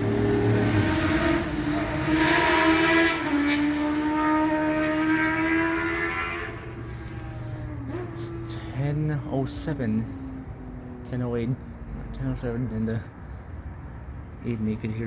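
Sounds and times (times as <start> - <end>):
passing vehicle engine accelerating: 0.0 - 12.8.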